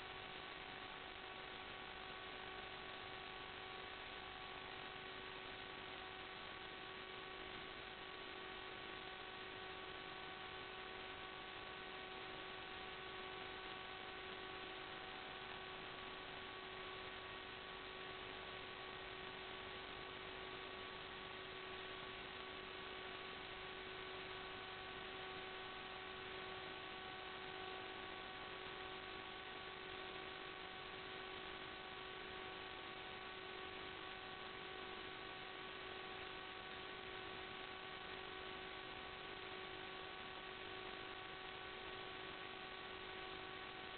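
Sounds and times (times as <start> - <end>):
electrical hiss and hum: 0.0 - 43.9.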